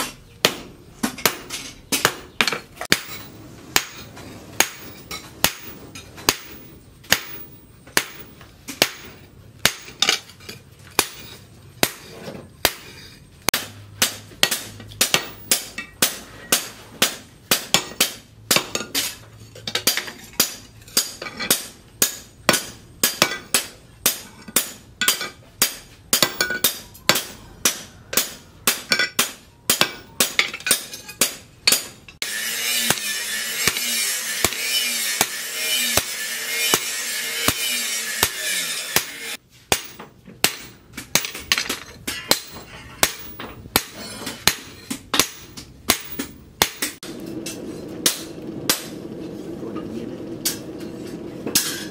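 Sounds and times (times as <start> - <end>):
hammer striking metal on anvil: 0.0 - 10.3, 10.9 - 49.0, 51.5 - 51.9.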